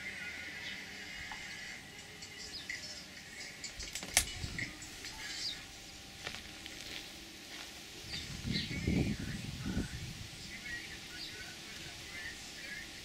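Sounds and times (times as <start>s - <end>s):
garden birds chirping and twittering: 0.0s - 13.0s.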